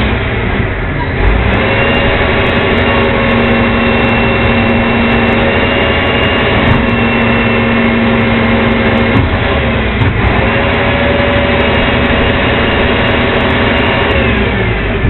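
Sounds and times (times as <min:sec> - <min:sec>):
garbage truck diesel engine: 0:00.0 - 0:15.0
hydraulic whine: 0:00.0 - 0:15.0.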